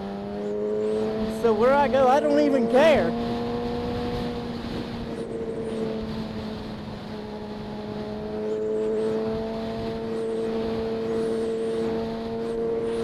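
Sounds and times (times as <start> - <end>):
motorcycle engine running: 0.0 - 13.0
wind noise on microphone: 1.0 - 13.0.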